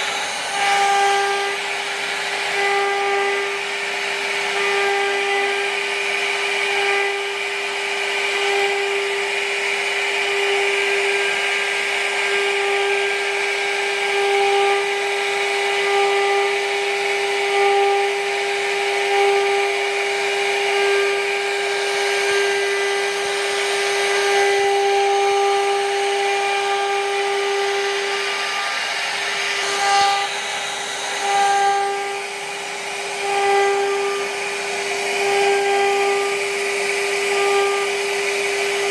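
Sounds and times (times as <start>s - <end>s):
hiss of bit cutting wood: 0.0s - 38.9s
router spindle whining: 0.0s - 38.9s.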